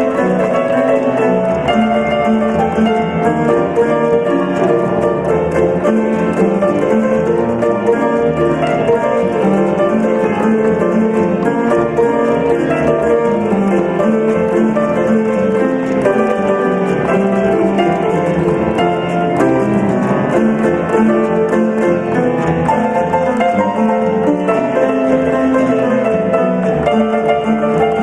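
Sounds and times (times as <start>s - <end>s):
upright piano playing ragtime: 0.0s - 28.0s.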